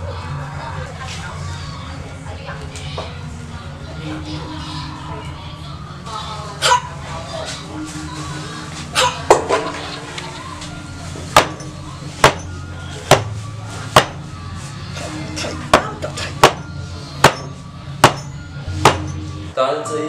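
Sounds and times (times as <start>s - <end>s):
low background music: 0.0s - 20.0s.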